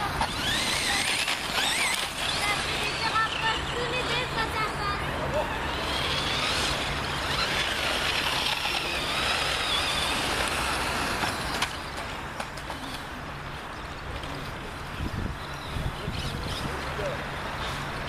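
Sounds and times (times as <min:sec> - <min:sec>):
rc car motors whining: 0:00.0 - 0:13.6, 0:14.2 - 0:18.0
tyre and ground noise: 0:00.0 - 0:18.0.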